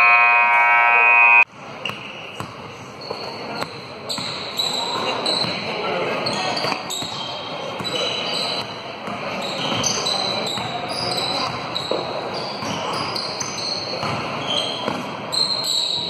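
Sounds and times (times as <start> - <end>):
sneakers squeaking on floor: 1.8 - 16.0.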